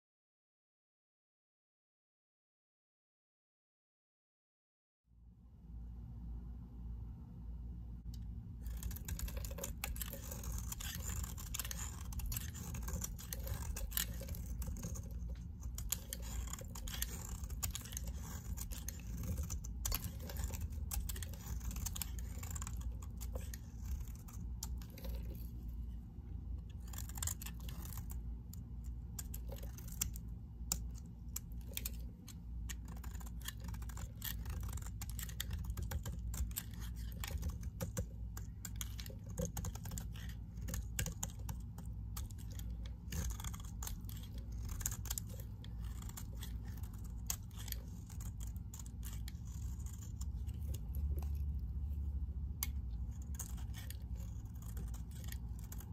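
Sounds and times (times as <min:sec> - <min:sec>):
knife blade scraping soap: 0:08.6 - 0:55.9.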